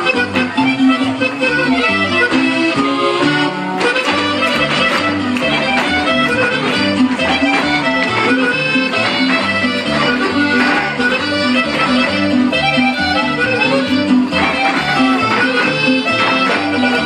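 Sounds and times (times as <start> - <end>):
polka dance music with accordion: 0.0 - 17.0.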